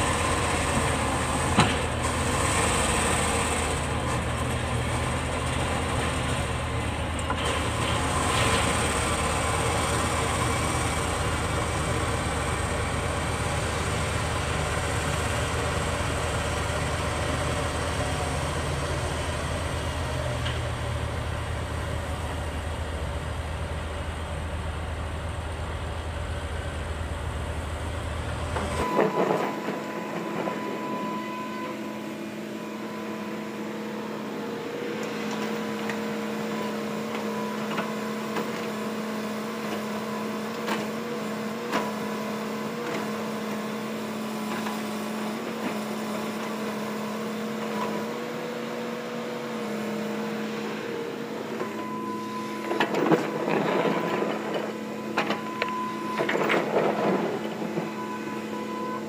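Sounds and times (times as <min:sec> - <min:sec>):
bulldozer diesel engine rumbling: 0:00.0 - 0:59.0
excavator engine and hydraulics whining: 0:00.0 - 0:59.0.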